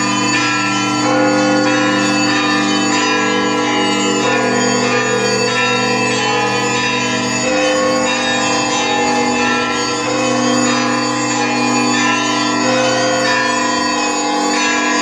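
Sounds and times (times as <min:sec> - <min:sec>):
deep bells humming: 0:00.0 - 0:15.0
higher bells struck: 0:00.0 - 0:15.0.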